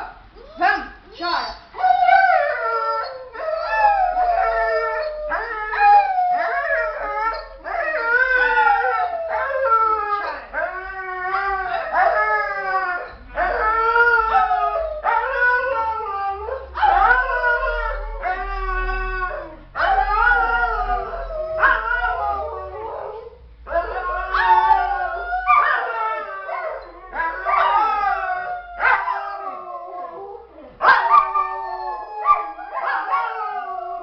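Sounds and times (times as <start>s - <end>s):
dog howling: 1.8s - 34.0s.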